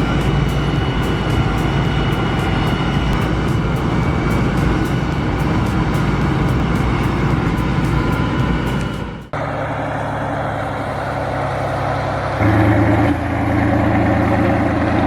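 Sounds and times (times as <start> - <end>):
large diesel engine running: 0.0 - 15.0.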